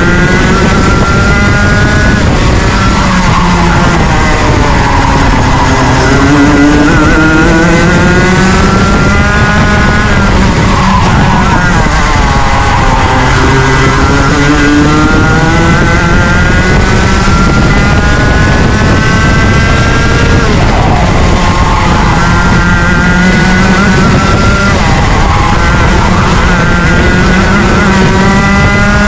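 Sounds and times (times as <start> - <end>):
kart engine running hard: 0.0 - 29.0.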